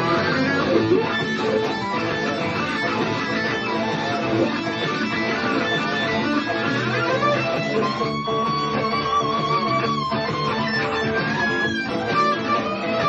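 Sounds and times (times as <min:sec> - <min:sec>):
blues backing track: 0:00.0 - 0:13.0
blues guitar improvising: 0:00.0 - 0:13.0.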